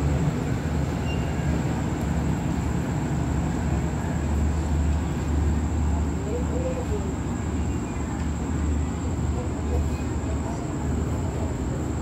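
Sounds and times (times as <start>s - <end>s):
train engine and wheels rumbling: 0.0s - 12.0s.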